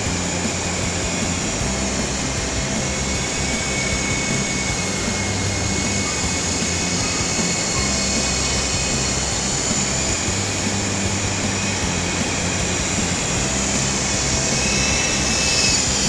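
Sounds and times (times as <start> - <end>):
toy helicopter whirring hum: 0.0 - 16.0.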